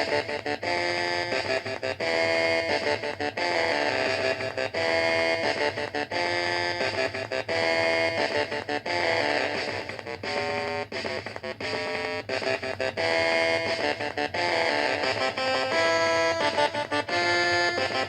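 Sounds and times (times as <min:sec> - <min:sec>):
upbeat electric guitar music: 0:00.0 - 0:18.0.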